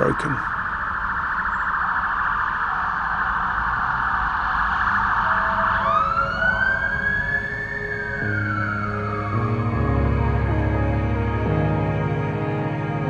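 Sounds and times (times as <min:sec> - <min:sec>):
dense high buzzing drone: 0:00.0 - 0:13.0.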